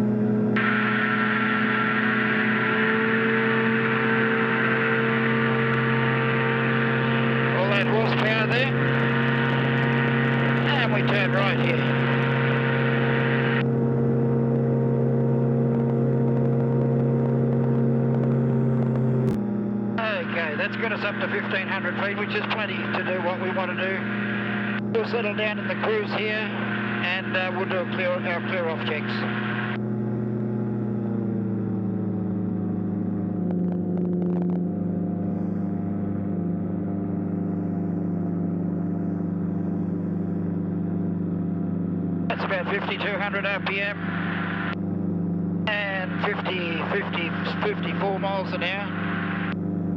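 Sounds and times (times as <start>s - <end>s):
light aircraft engine drone: 0.0s - 49.9s.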